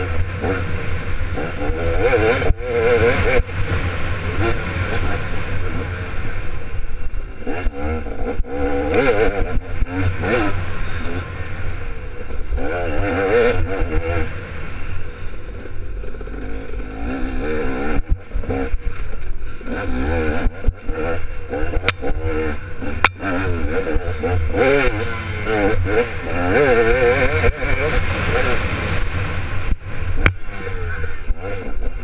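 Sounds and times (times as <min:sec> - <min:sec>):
dirt bike engine revving: 0:00.0 - 0:18.9, 0:19.5 - 0:32.0.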